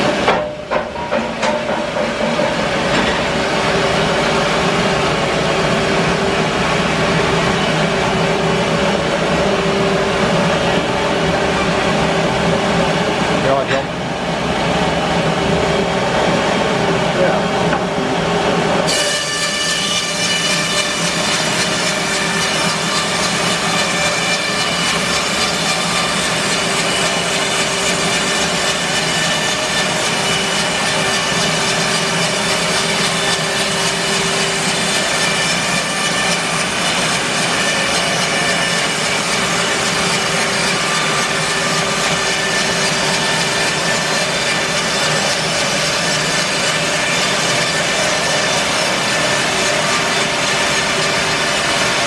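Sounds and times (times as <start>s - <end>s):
sawmill engine under load: 0.0s - 52.0s.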